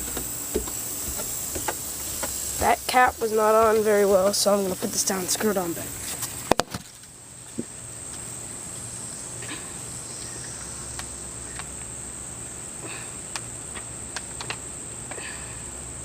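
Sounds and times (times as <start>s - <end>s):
insects droning high-pitched: 0.0s - 16.0s.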